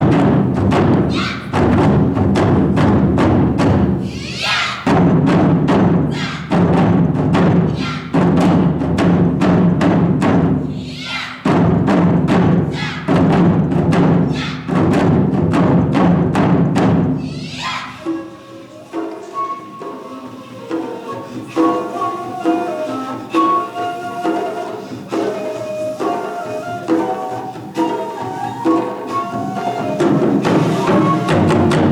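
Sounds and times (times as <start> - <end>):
taiko drums beaten fast: 0.0 - 31.9.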